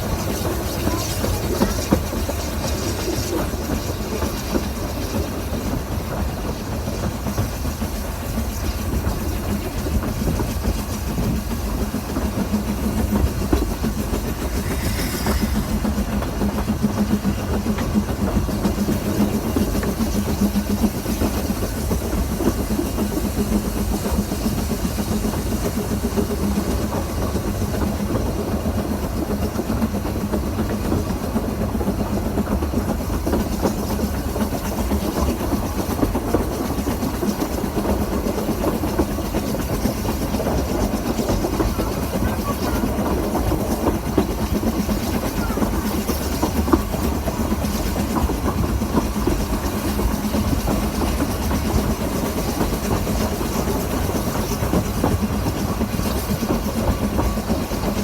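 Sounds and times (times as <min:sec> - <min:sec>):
train rumble: 0:00.0 - 0:58.0
train wheels clickety-clack: 0:00.0 - 0:58.0.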